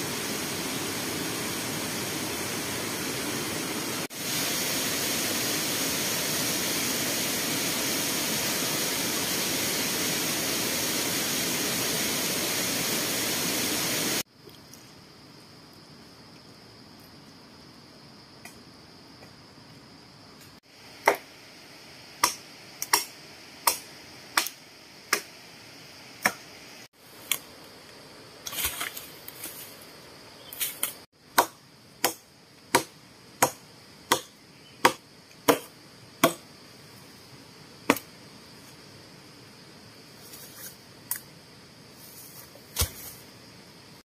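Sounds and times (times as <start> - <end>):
high insect buzz: 0.0 - 44.0
rustle: 0.0 - 44.0.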